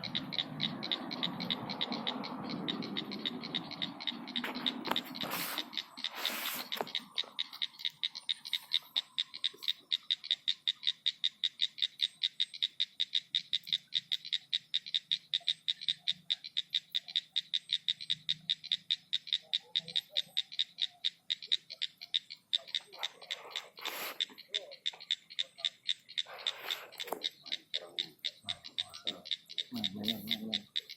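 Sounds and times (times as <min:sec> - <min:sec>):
frog calling with clicking pulses: 0:00.0 - 0:30.9.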